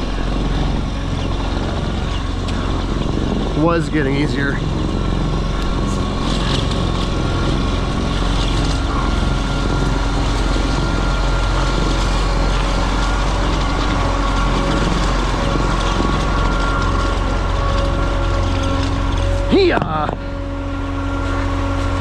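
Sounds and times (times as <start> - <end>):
diesel engine running: 0.0 - 22.0
thin steady whine: 0.0 - 22.0.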